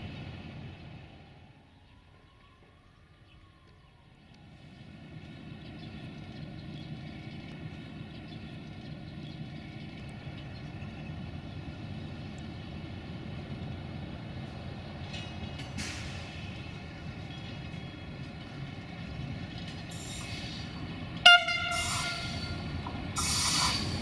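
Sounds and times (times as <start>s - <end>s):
electric locomotive rumble: 0.0s - 2.1s, 4.2s - 24.0s.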